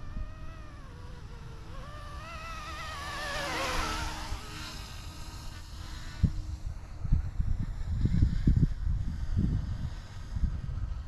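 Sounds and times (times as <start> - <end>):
rc helicopter rotor whining: 0.0 - 11.0
wind rumble on microphone: 0.0 - 11.0.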